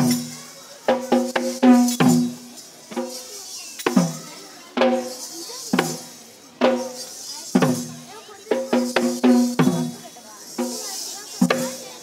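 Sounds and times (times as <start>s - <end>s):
drum beaten in uneven rhythm: 0.0s - 12.0s.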